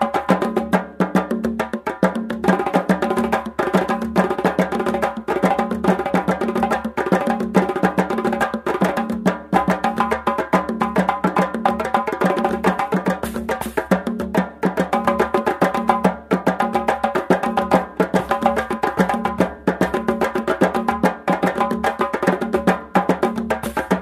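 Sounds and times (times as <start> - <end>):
music with fast percussion: 0.0 - 24.0.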